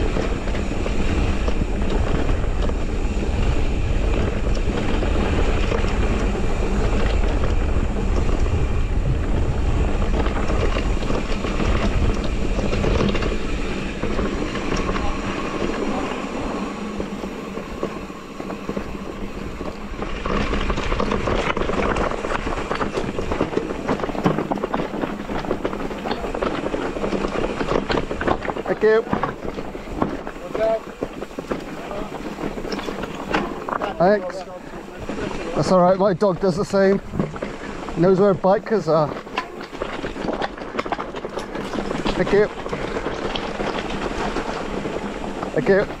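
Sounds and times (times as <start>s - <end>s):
bike rattling and clattering: 0.0s - 46.0s
bike tyre rumble on stones: 0.0s - 46.0s
wind buffeting microphone: 0.0s - 46.0s.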